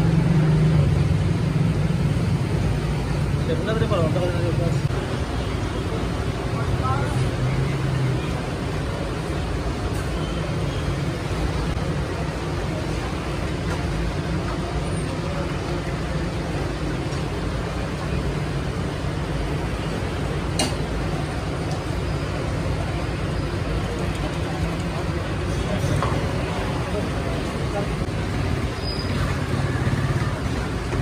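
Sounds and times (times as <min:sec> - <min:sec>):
street traffic hum: 0:00.0 - 0:31.0.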